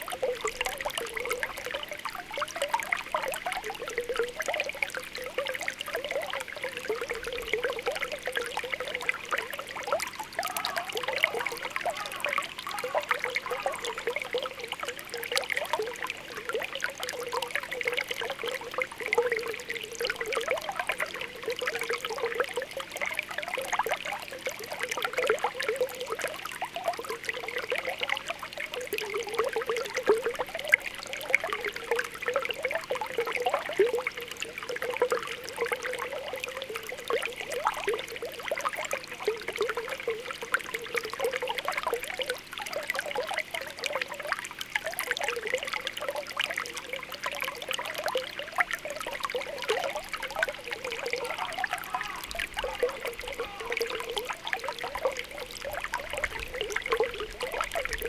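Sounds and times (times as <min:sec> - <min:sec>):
water bubbling and popping: 0:00.0 - 0:58.0.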